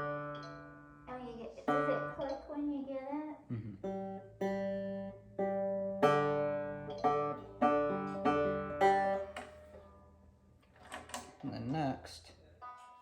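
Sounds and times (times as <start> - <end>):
banjo strings plucked: 0.0 - 10.1, 12.6 - 13.0.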